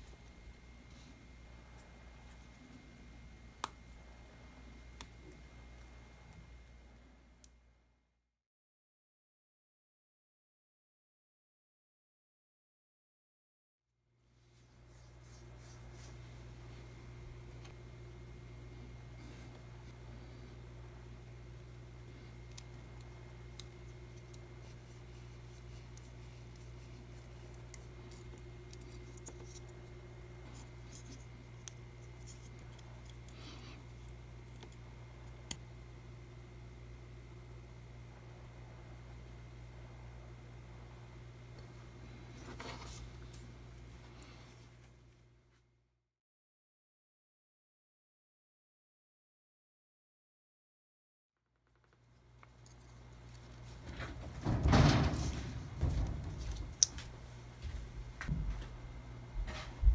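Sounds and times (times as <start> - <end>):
low electrical hum: 0.0 - 8.2, 14.0 - 45.9, 51.5 - 59.9.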